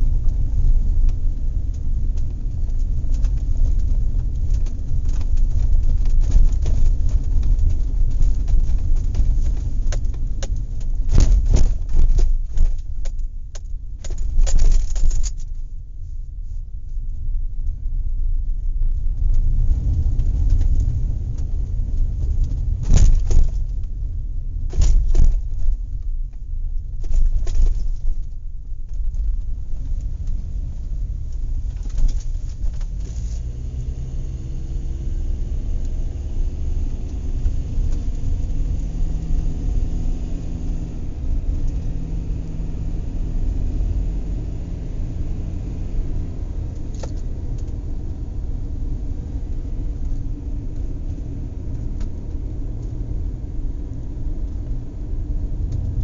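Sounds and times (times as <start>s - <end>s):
steady low rumble: 0.0s - 56.0s.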